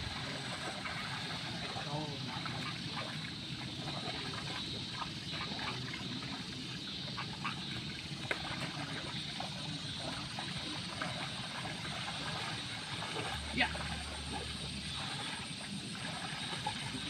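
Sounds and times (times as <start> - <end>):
steady outdoor hiss: 0.0 - 17.0
water trickling in mud: 0.0 - 17.0.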